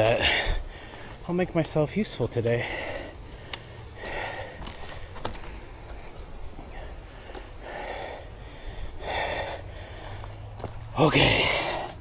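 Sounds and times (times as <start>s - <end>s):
person breathing hard: 0.2s - 1.2s, 2.6s - 12.0s.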